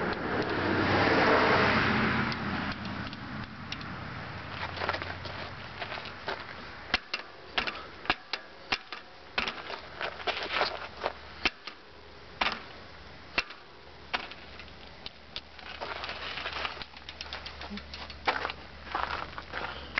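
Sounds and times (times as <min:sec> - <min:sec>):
suspension fork clunking: 0:02.3 - 0:19.9.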